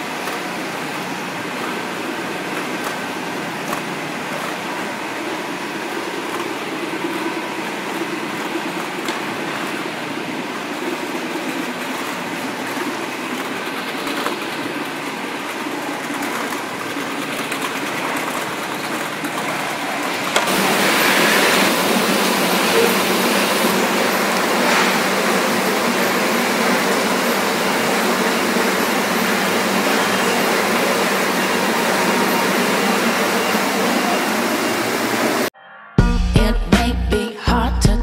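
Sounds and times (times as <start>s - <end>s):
sorting line mechanical noise: 0.0s - 35.5s.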